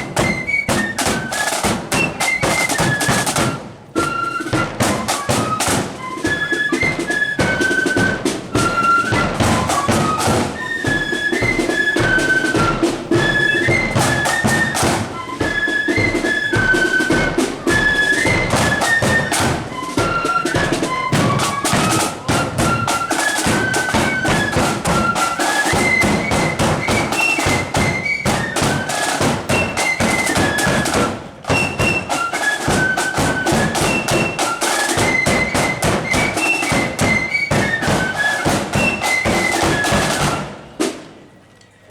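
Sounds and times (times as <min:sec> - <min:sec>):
flutes playing high melody: 0:00.0 - 0:40.9
snare and bass drum beats: 0:00.0 - 0:41.3.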